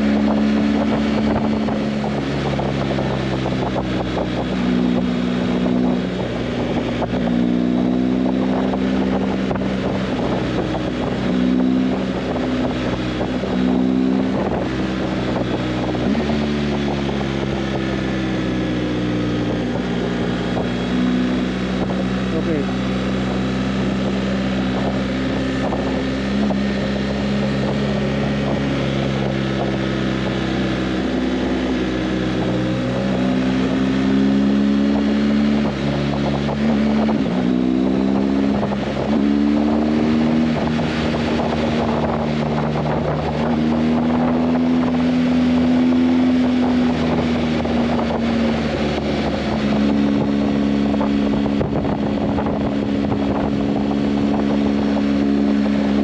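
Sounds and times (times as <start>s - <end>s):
motorcycle engine: 0.0s - 56.0s
wind on microphone: 0.0s - 56.0s.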